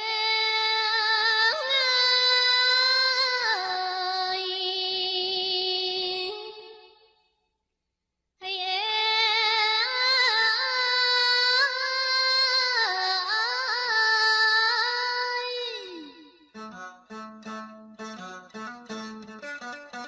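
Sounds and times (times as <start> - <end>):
woman singing unaccompanied: 0.0 - 7.0, 8.4 - 18.4.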